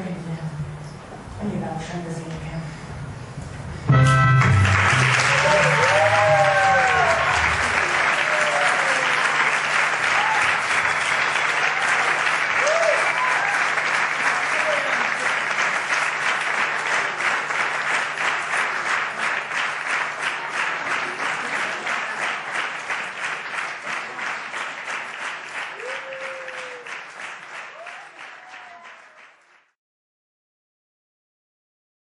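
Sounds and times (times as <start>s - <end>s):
audience applauding: 3.9s - 29.8s.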